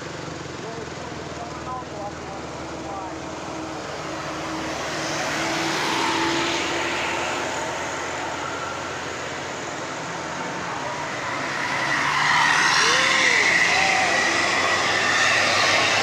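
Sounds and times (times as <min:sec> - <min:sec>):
road vehicle passing hiss: 0:02.4 - 0:16.0.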